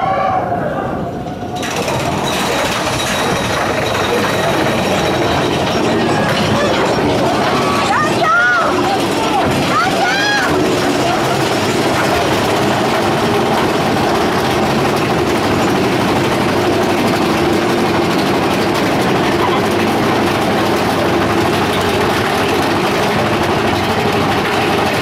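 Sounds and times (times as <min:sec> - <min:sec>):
roller coaster train rumbling: 0:00.0 - 0:25.0.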